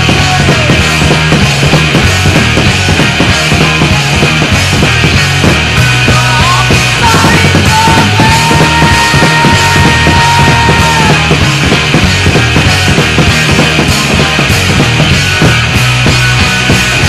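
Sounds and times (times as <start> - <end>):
music with steady beat: 0.0 - 17.0.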